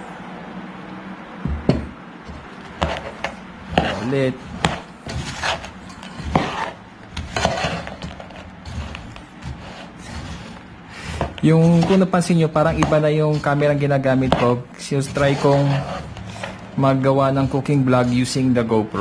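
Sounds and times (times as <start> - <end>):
metal spoon scraping a pan: 2.8 - 18.4.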